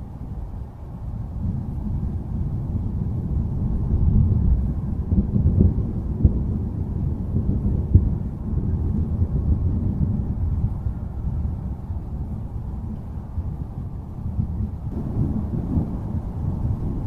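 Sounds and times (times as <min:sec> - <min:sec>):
distant thunder rumble: 0:01.3 - 0:17.0.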